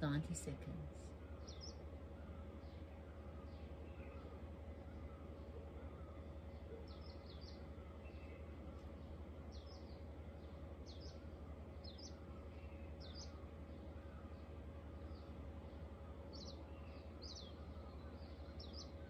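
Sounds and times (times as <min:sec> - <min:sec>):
steady low hum: 0:00.0 - 0:19.0
small bird chirping: 0:01.4 - 0:19.0.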